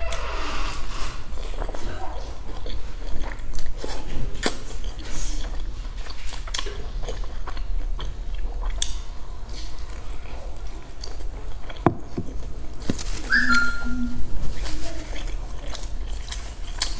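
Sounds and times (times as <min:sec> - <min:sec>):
biting and chewing flatbread: 0:00.0 - 0:13.3, 0:14.2 - 0:16.9.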